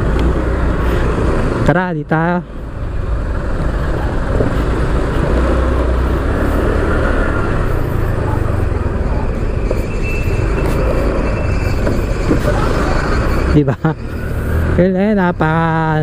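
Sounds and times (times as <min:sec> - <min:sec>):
road noise from traffic: 0:00.0 - 0:16.0
motorcycle engine rumble: 0:02.4 - 0:16.0.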